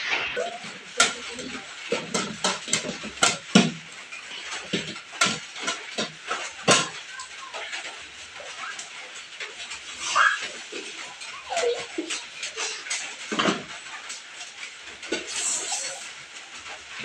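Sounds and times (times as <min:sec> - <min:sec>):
kitchen tap running: 0:00.1 - 0:17.0
dishes clattering: 0:00.2 - 0:08.0, 0:08.6 - 0:16.2.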